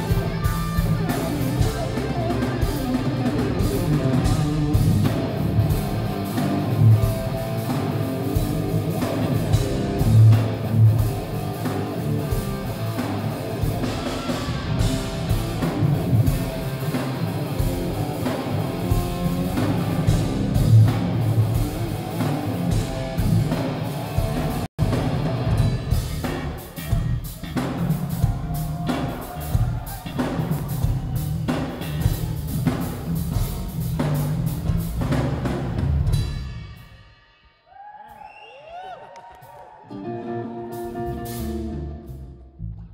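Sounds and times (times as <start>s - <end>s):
electric guitar: 0.0s - 36.3s, 39.9s - 42.9s
bass guitar: 0.0s - 36.6s, 39.9s - 42.9s
drum kit: 0.0s - 39.7s, 40.6s - 42.9s.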